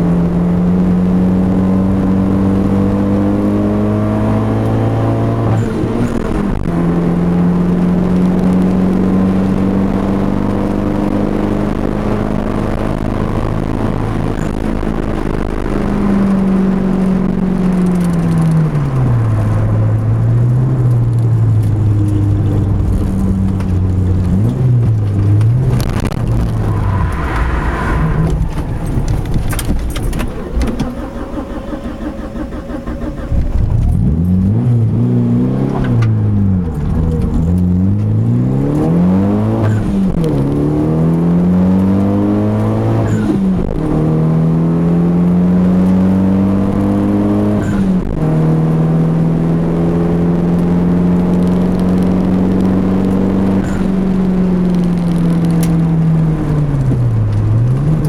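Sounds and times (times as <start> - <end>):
car engine revving from inside cabin: 0.0 - 30.0, 33.3 - 58.0.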